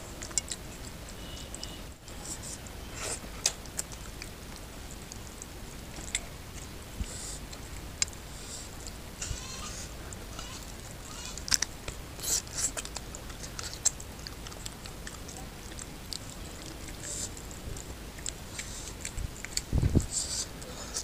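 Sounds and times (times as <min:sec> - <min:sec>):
food squelching and crackling: 0:00.0 - 0:21.0
wet chewing and lip smacks: 0:00.0 - 0:21.0.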